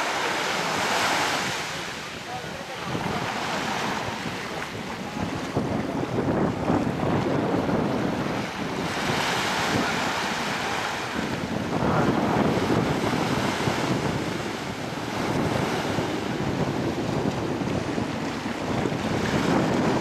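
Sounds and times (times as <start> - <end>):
surf washing on beach: 0.0 - 20.0
wind buffeting microphone: 0.0 - 20.0.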